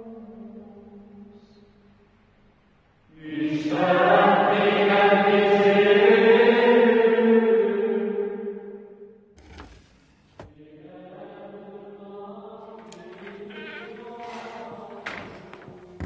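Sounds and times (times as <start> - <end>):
chant-like choir voices: 0.0 - 1.6, 3.1 - 9.0, 10.4 - 16.0.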